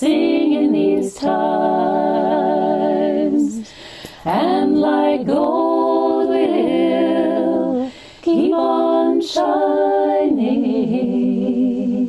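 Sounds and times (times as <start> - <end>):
woman singing a cappella harmonies: 0.0 - 12.0.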